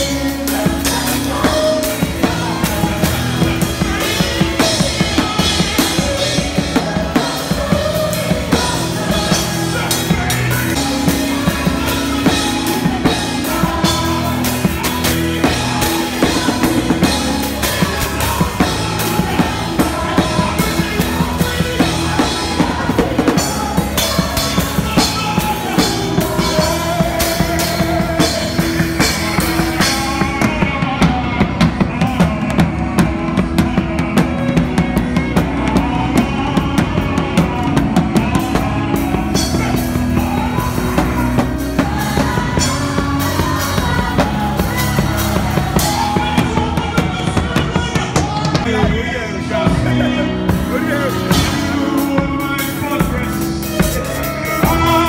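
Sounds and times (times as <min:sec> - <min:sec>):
drum kit playing: 0:00.0 - 0:55.0
live gospel band: 0:00.0 - 0:55.0.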